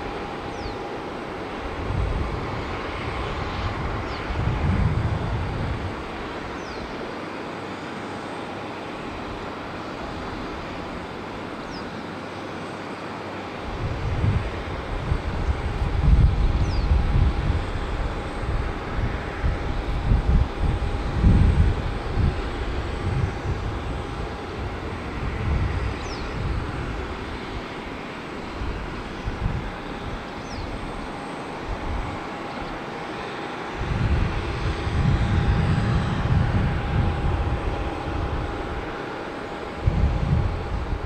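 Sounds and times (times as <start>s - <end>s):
jet engines humming: 0.0s - 41.0s.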